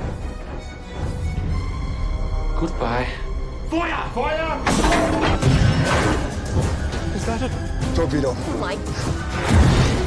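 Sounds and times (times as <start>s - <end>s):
film score music: 0.0s - 10.0s.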